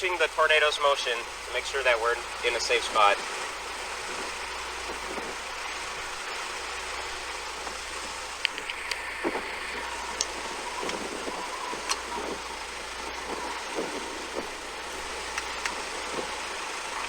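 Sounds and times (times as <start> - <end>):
vehicle engine idling: 0.0 - 17.0
wind hissing: 0.0 - 17.0
small clicks: 2.3 - 17.0.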